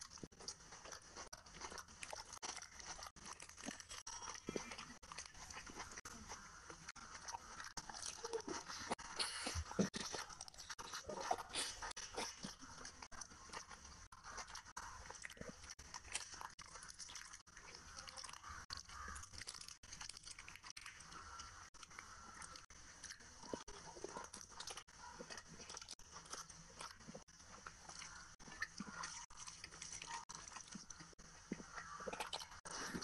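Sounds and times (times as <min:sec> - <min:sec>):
person chewing food: 0:00.0 - 0:33.0.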